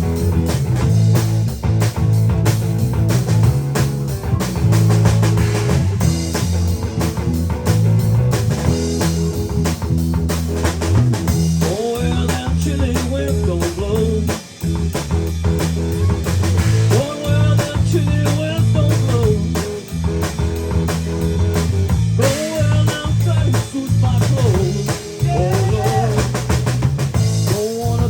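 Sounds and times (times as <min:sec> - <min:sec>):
blues-rock band playing: 0:00.0 - 0:28.0
drum kit steady beat: 0:00.0 - 0:28.0.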